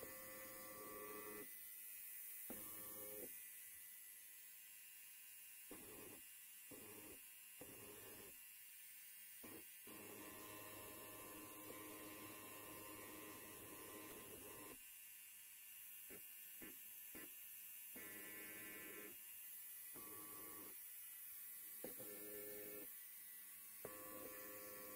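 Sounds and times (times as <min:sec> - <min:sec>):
electric hair clipper buzzing: 0:00.0 - 0:24.9.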